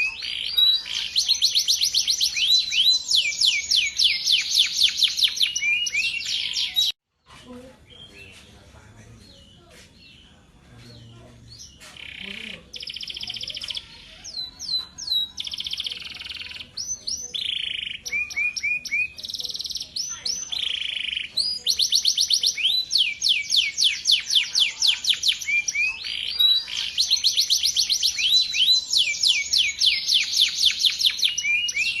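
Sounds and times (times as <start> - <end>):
canary singing: 0.0 - 7.0, 7.7 - 32.0.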